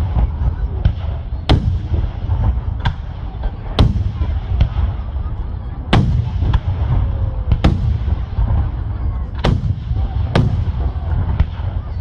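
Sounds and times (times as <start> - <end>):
low rumble of fireworks: 0.0 - 12.0.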